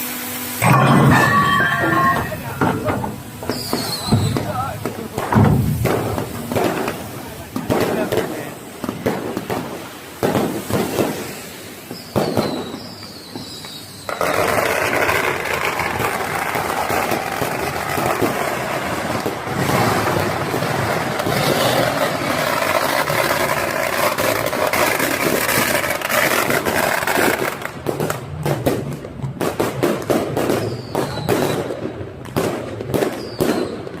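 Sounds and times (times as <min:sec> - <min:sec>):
firecrackers crackling: 0:00.0 - 0:34.0.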